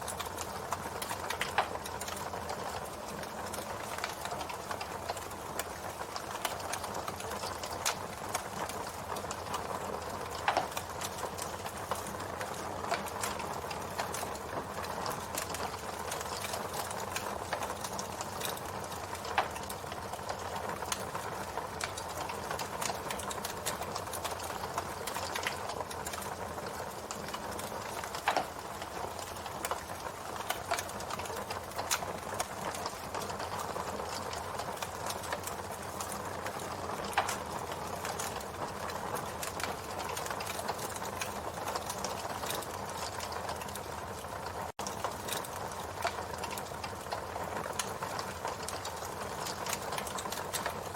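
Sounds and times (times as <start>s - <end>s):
wood crackling in campfire: 0.0s - 50.9s.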